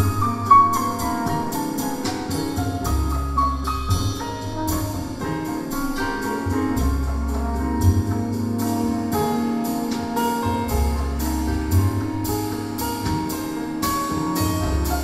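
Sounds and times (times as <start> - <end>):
drum kit: 0.0 - 15.0
hand percussion: 0.0 - 15.0
horn: 0.0 - 15.0
piano: 0.0 - 15.0
upright bass line: 0.0 - 15.0.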